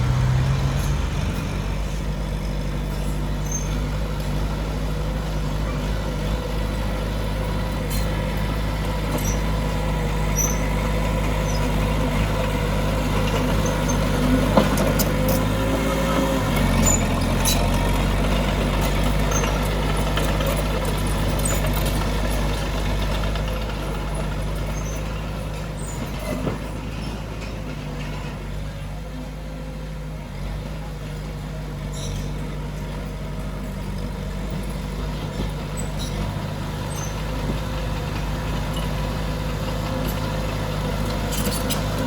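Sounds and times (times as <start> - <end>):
diesel machinery running: 0.0 - 42.0.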